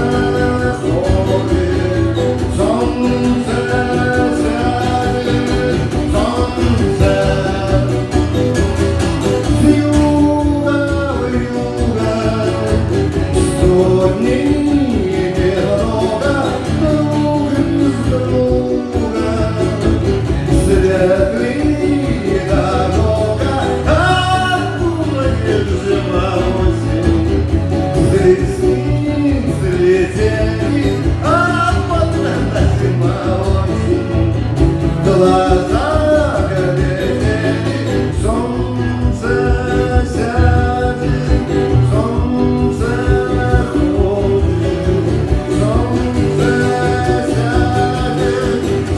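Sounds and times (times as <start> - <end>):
guitar accompaniment: 0.0 - 48.9
man singing: 0.0 - 48.9.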